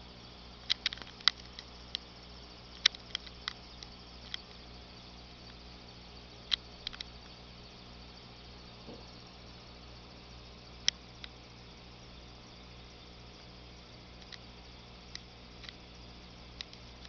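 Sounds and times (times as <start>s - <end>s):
aquarium air pump hum: 0.0s - 17.0s.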